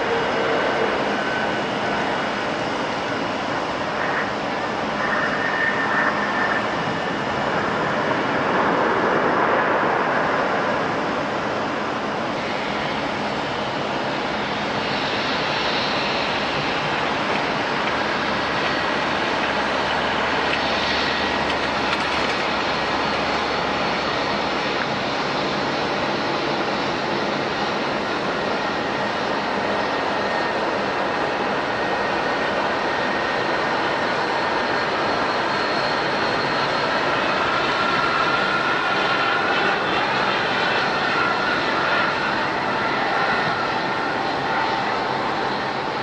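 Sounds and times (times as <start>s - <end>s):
faint high whine: 0.0s - 46.0s
jet engines roaring: 0.0s - 46.0s.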